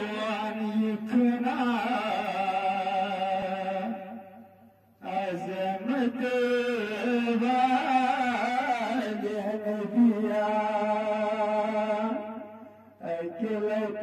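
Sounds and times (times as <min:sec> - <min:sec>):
man singing devotional hymn: 0:00.0 - 0:14.0.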